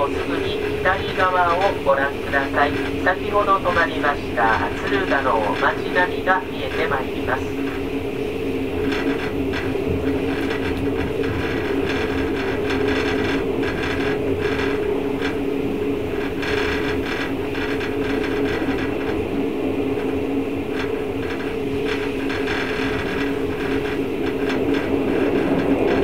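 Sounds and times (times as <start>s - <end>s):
light rattles: 0.0s - 26.0s
train running rumble: 0.0s - 26.0s.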